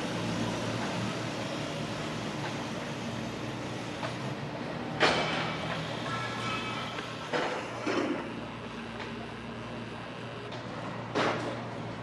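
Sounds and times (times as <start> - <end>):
station platform hum: 0.0 - 12.0.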